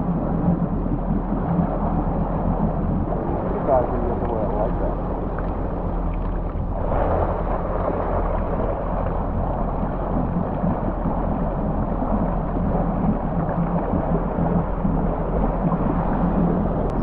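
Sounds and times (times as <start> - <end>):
jet ski engine running: 0.0 - 17.0
water rushing and splashing: 0.0 - 17.0.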